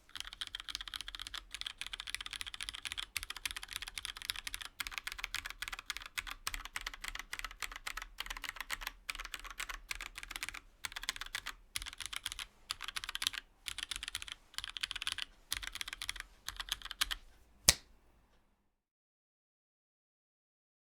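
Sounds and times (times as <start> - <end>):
mechanical keyboard typing: 0.1 - 17.2.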